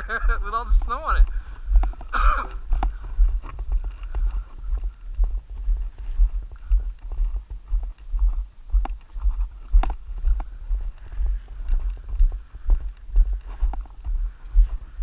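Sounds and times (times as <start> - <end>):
footsteps on gravel road: 0.0 - 15.0
low microphone thumps: 0.0 - 15.0.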